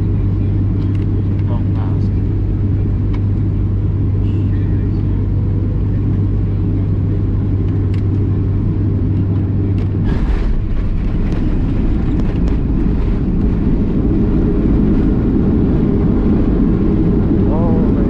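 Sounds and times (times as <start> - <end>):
aircraft cabin engine rumble: 0.0 - 18.0
steady hum: 0.0 - 18.0.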